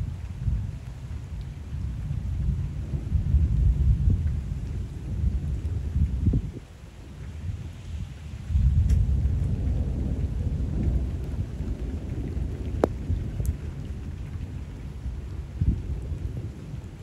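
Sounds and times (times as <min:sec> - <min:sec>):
rain falling on water: 0:00.0 - 0:17.0
rolling thunder: 0:01.8 - 0:06.6, 0:07.3 - 0:17.0.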